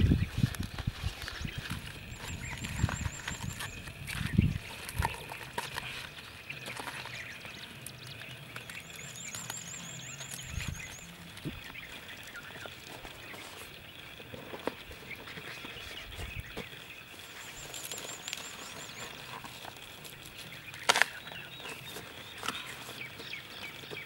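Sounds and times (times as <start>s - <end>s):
leaves crinkling and rustling: 0.0s - 24.0s.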